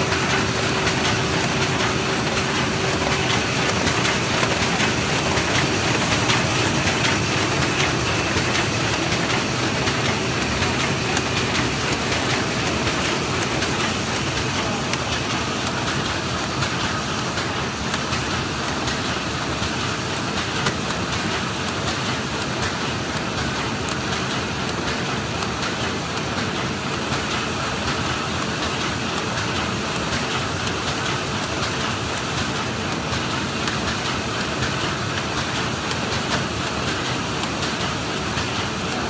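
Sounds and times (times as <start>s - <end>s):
machine clattering and ticking: 0.0s - 39.0s.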